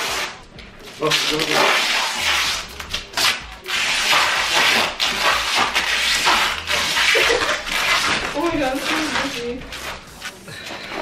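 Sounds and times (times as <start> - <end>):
duct tape ripping: 0.0 - 10.3.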